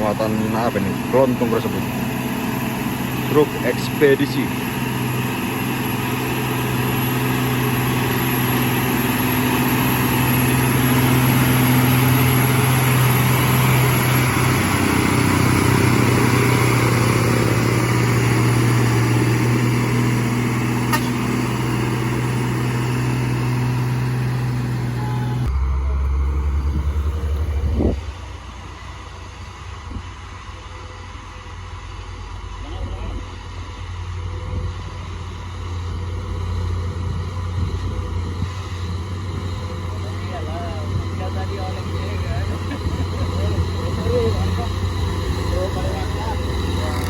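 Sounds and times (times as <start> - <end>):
diesel truck engine labouring: 0.0 - 47.0.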